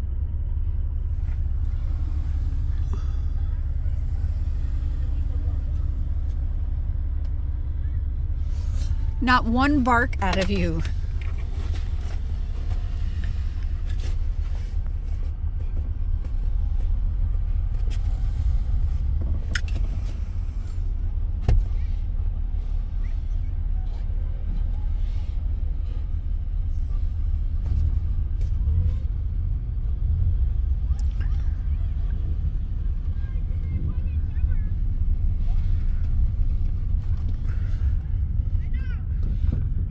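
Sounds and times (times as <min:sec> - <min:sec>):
road rumble inside car: 0:00.0 - 0:39.9.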